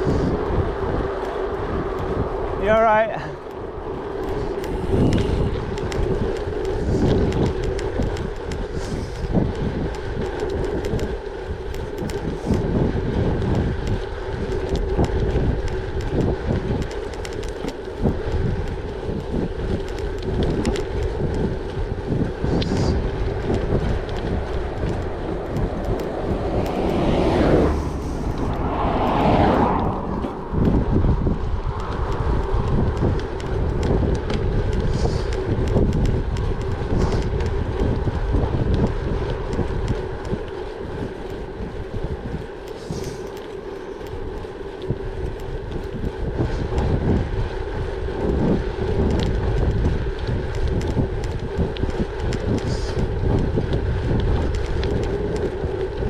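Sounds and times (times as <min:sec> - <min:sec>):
bike rolling hum: 0:00.0 - 0:56.0
wind buffeting microphone: 0:00.0 - 0:56.0.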